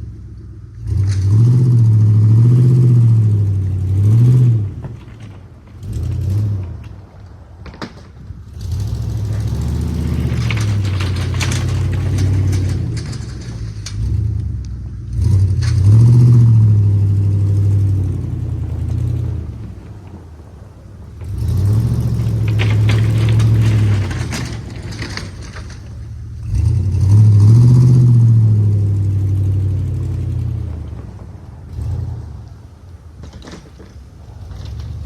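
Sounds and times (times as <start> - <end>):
tractor engine revving: 0.7 - 35.0.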